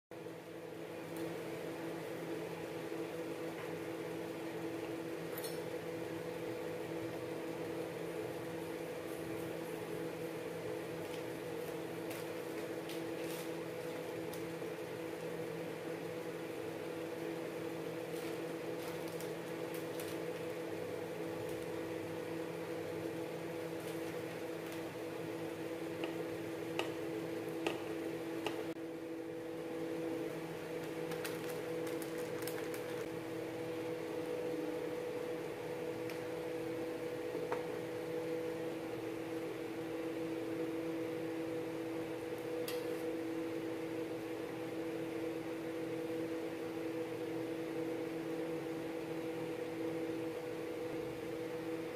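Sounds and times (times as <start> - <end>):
low mechanical hum: 0.1 - 51.9.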